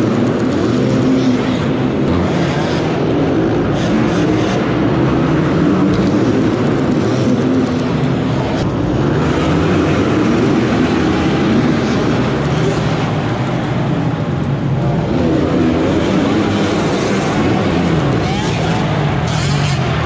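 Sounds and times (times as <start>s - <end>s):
pit bike engines revving: 0.0s - 20.0s.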